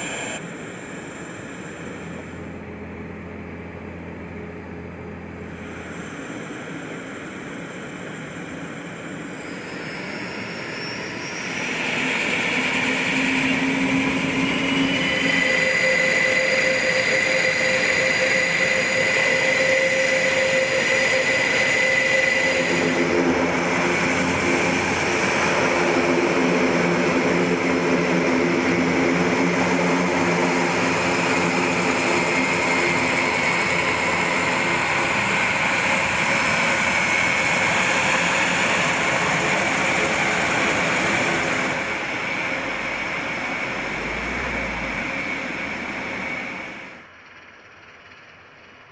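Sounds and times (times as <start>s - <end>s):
steady humming tones: 0.0s - 10.5s, 11.4s - 48.2s
turboprop engines running: 0.0s - 48.9s.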